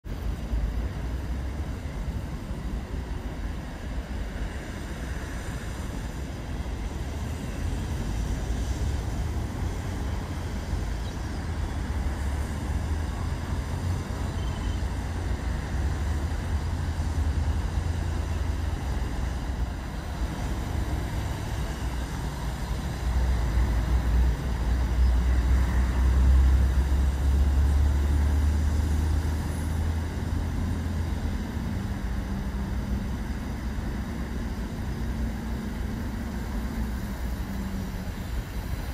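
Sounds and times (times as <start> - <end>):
boat engine droning: 0.1 - 38.9.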